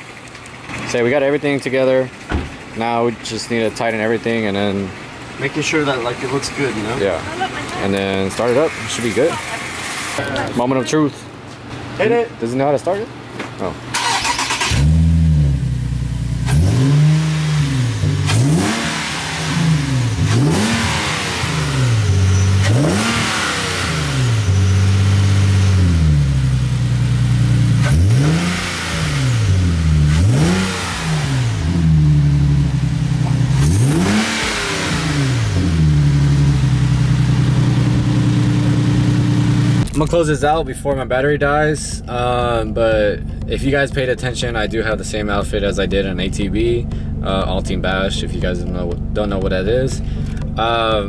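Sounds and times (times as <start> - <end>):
car engine revving: 0.0 - 10.5, 13.8 - 51.0
car engine idling: 0.0 - 12.3, 13.0 - 51.0.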